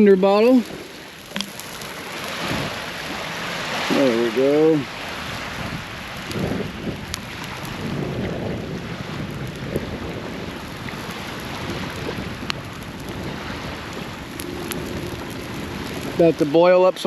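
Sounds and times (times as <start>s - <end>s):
campfire crackling: 0.0s - 17.0s
wind rumble on microphone: 0.0s - 17.0s.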